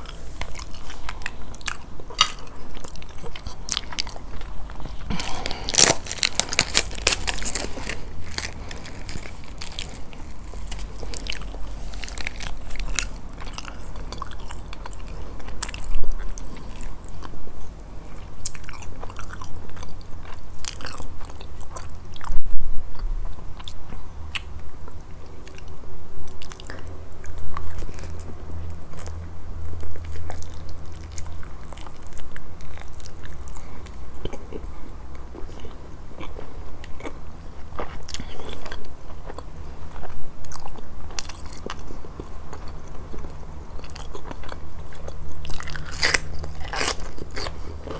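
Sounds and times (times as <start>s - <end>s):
chewing and crunching: 0.0s - 47.9s.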